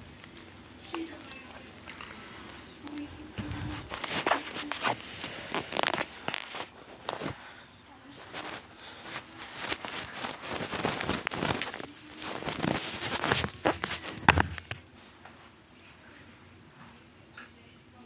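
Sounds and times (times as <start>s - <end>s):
rustling and scraping handling: 0.0s - 7.5s, 8.1s - 15.5s.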